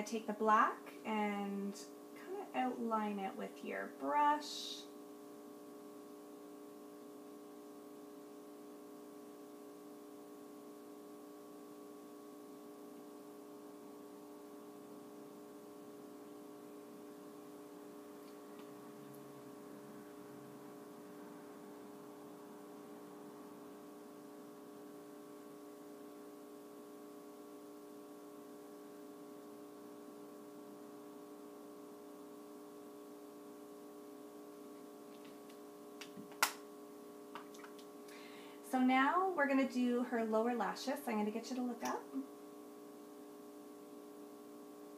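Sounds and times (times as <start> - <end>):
faint electrical hum: 0.0 - 44.9.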